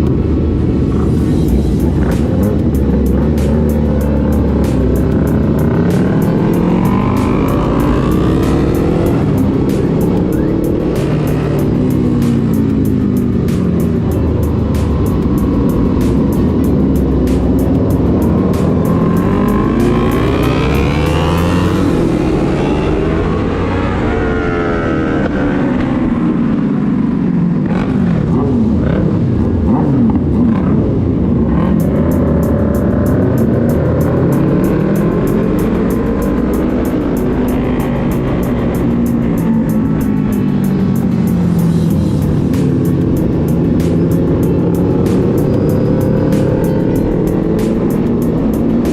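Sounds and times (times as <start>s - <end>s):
background music with beat: 0.0s - 23.7s, 31.6s - 48.9s
motorcycle engine revving: 0.0s - 48.9s.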